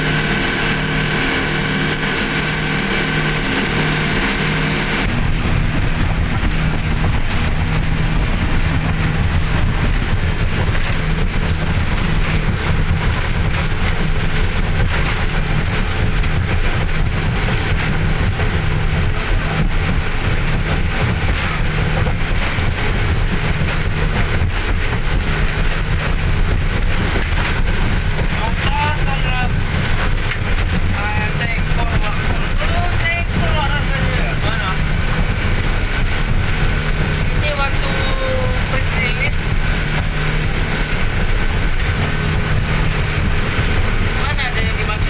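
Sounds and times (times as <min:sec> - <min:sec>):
speedboat engines running: 0:00.0 - 0:45.0
wind and water rushing: 0:00.0 - 0:45.0.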